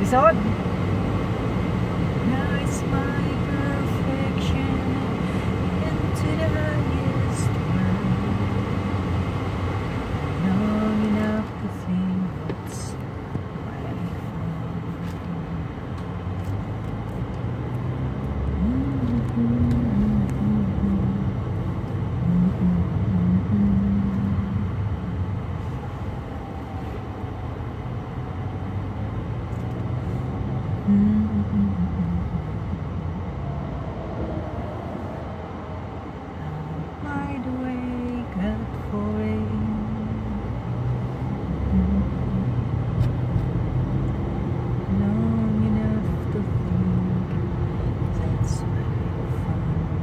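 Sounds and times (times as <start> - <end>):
engine and tyre rumble: 0.0 - 50.0
low engine hum: 0.0 - 50.0.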